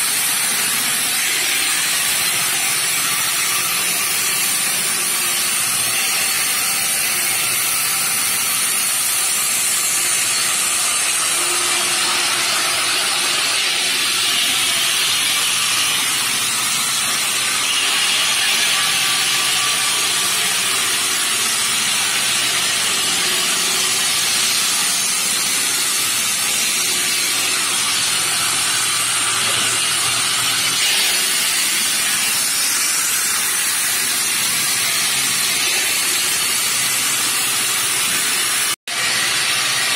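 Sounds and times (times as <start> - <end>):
saw blade cutting stone with water: 0.0 - 39.9.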